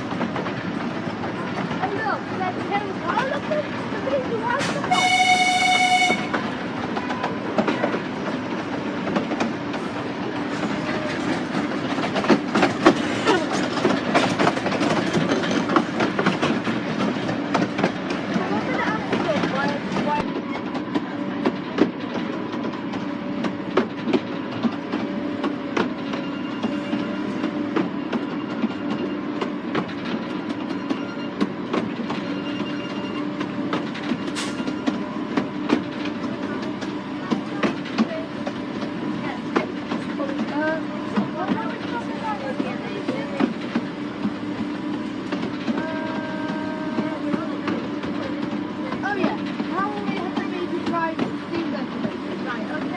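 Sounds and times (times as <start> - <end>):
clickety-clack over rail joints: 0.0 - 52.9
train wheels rumbling on rail: 0.0 - 52.9.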